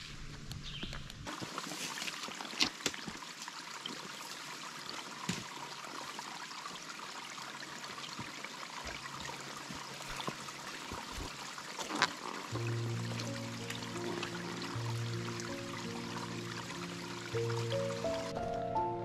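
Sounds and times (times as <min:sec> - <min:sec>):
flowing creek: 0:01.3 - 0:18.5.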